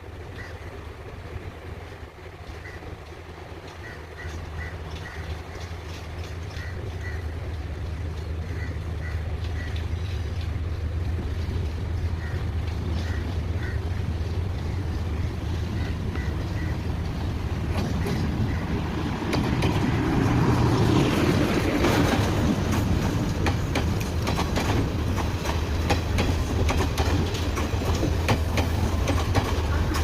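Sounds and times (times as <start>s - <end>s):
diesel train engine hum: 0.0s - 30.0s
train wheels clattering over rail joints: 1.8s - 30.0s.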